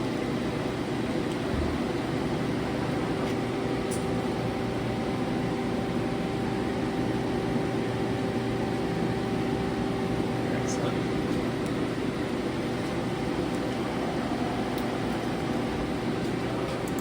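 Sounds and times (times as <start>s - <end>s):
machine hum with motor whine: 0.0s - 17.0s.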